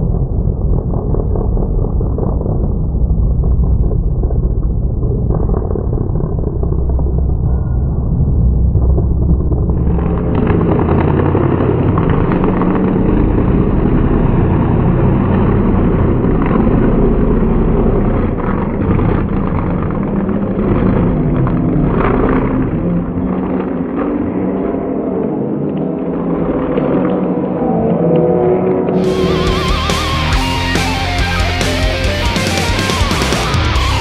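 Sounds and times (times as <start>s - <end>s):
truck engine at high throttle: 0.0s - 28.2s, 28.8s - 34.0s.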